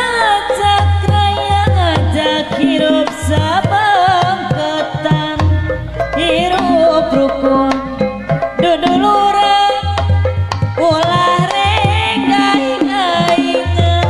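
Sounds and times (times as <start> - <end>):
gamelan ensemble: 0.0 - 14.0
hand drums booming: 0.0 - 14.0
wavering melody: 0.0 - 14.0.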